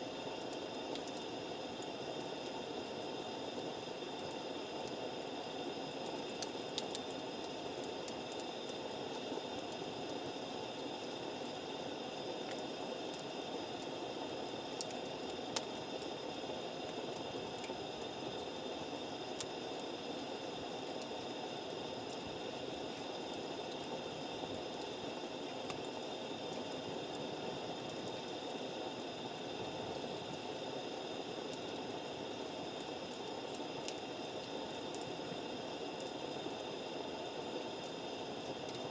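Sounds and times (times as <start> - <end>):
campfire hissing: 0.0 - 38.9.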